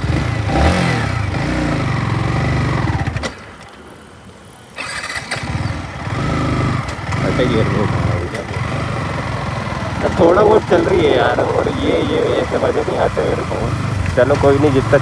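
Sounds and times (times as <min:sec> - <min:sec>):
motorcycle engine revving unevenly: 0:00.0 - 0:03.4, 0:04.8 - 0:15.0.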